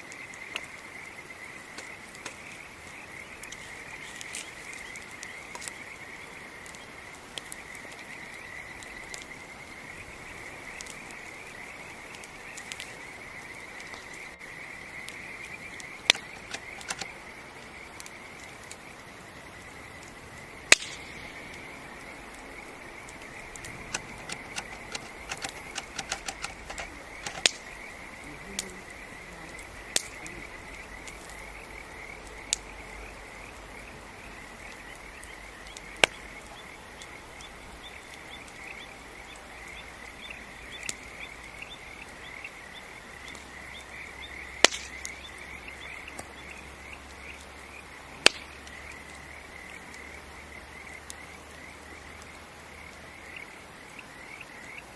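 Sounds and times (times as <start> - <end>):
campfire crackling and popping: 0.0 - 38.7, 42.1 - 53.3
insects chirping: 0.0 - 54.9.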